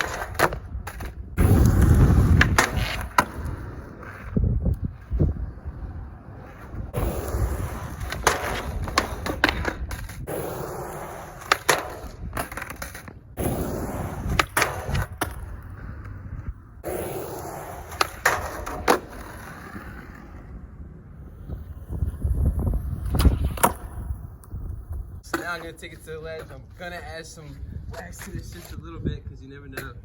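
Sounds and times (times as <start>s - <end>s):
skateboard popping and landing: 0.0s - 26.6s
skateboard wheels rolling: 0.0s - 29.0s
skateboard trucks scraping: 0.0s - 30.0s.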